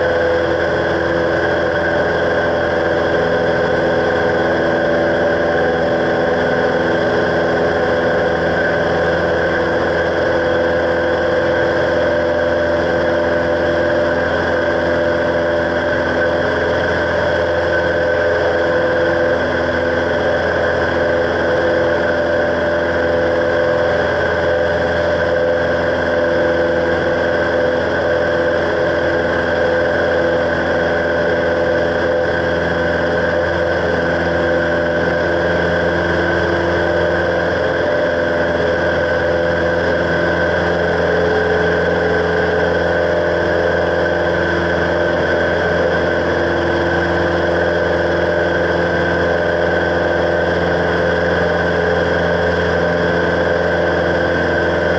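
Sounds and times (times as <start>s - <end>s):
propeller plane engine drone: 0.0s - 54.9s.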